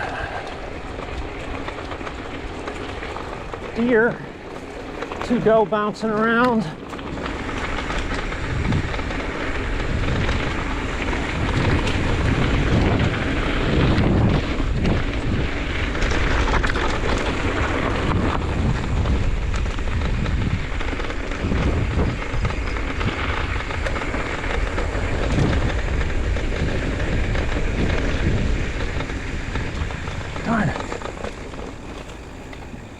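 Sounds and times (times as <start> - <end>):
steady rattling rumble: 0.0 - 32.9
wind buffeting microphone: 0.0 - 32.9.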